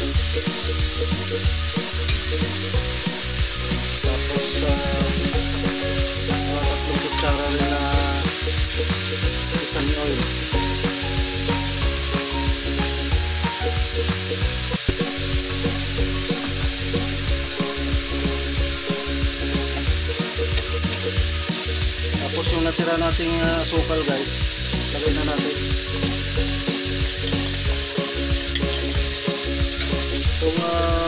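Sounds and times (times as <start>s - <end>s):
meat and mushrooms sizzling in oil: 0.0s - 31.0s.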